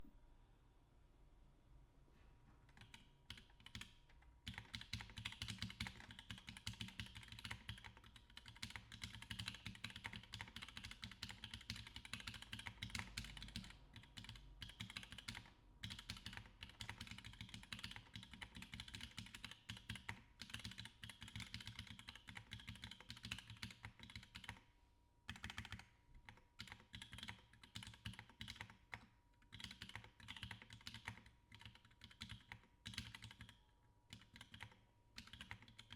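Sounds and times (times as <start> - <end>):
mechanical keyboard typing: 2.7 - 24.6, 25.3 - 35.9.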